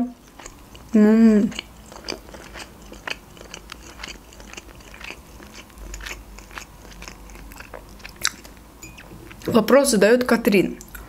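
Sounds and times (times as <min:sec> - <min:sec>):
person chewing food: 0:00.0 - 0:09.5.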